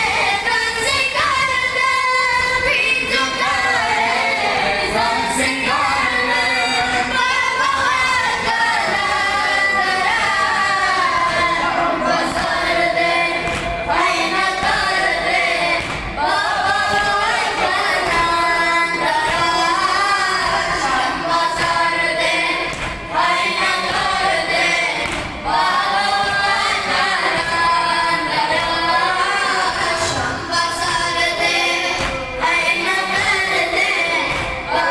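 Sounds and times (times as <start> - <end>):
voices chanting in unison: 0.0 - 34.9.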